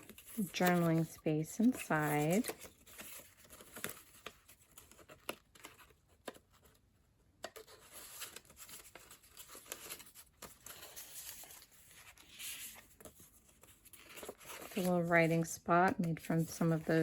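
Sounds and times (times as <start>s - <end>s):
paper pages rustling: 0.0s - 17.0s.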